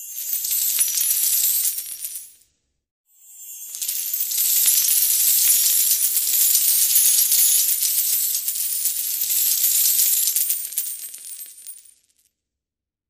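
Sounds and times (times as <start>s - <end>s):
coins clinking and jingling: 0.0s - 2.4s, 3.5s - 12.3s.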